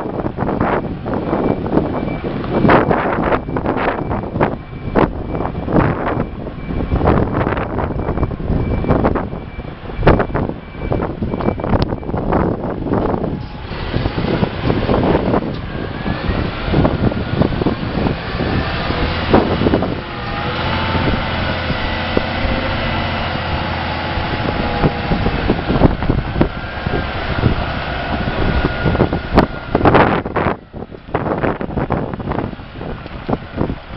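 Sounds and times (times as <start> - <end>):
diesel truck engine running: 0.0 - 33.9
wind noise: 0.0 - 33.9.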